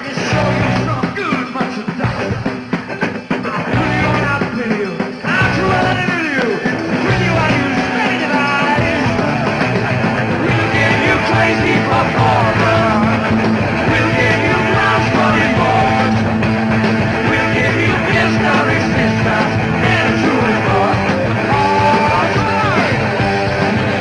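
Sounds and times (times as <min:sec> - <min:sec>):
man singing lead vocal: 0:00.0 - 0:02.5, 0:03.3 - 0:09.6, 0:10.4 - 0:16.4, 0:17.1 - 0:23.2
bass guitar: 0:00.0 - 0:24.0
drums: 0:00.0 - 0:24.0
electric guitar: 0:00.0 - 0:24.0.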